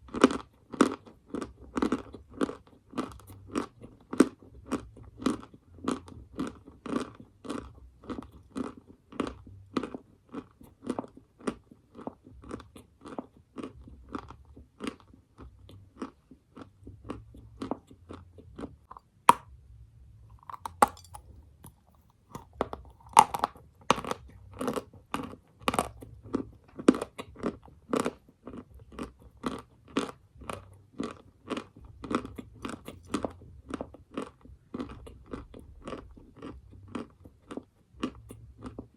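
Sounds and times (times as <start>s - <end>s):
person chewing crunchy mineral: 0.0s - 19.5s, 20.3s - 38.9s.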